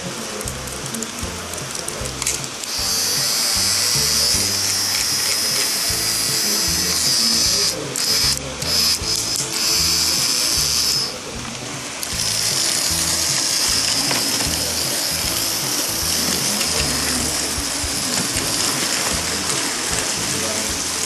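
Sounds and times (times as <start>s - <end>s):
background music: 0.0s - 21.0s
toy train motor whirring: 0.0s - 21.0s.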